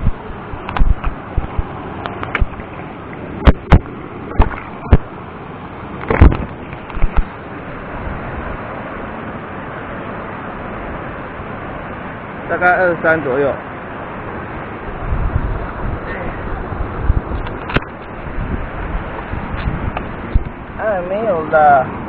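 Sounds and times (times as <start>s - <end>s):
stream rushing: 0.0s - 22.0s
wind: 0.0s - 22.0s.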